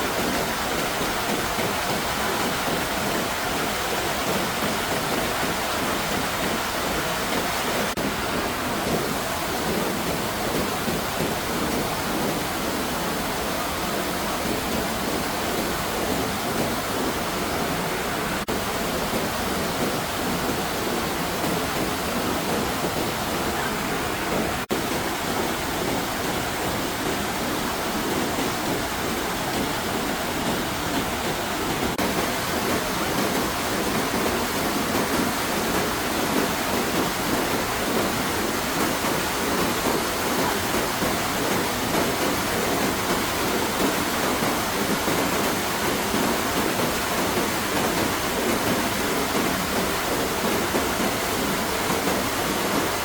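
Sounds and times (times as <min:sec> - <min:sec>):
dense rush of water: 0:00.0 - 0:53.0.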